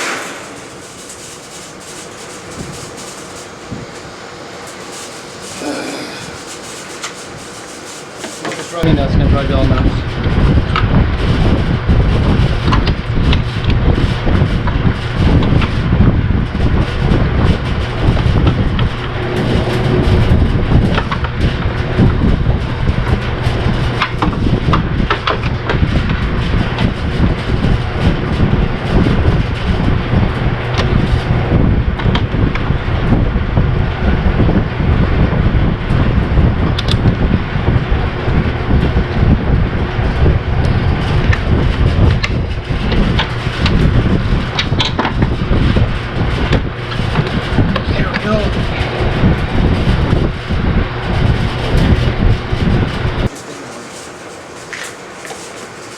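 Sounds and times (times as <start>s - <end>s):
rough misfiring engine rumble: 0.0s - 55.9s.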